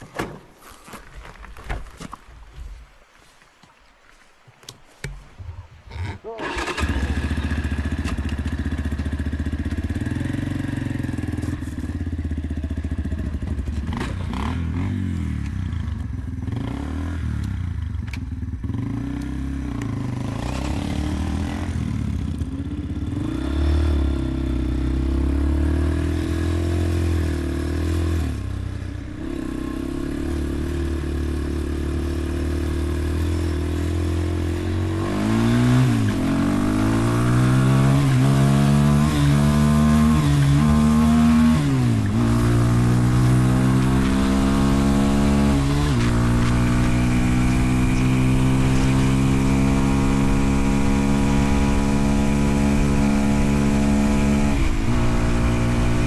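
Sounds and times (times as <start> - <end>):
dirt bike engine revving: 6.3 - 56.0.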